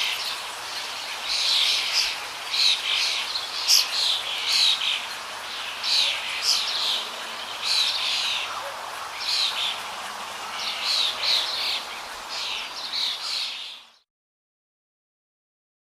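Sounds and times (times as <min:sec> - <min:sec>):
small birds chirping: 0:00.0 - 0:14.0
steady hiss: 0:00.0 - 0:14.0.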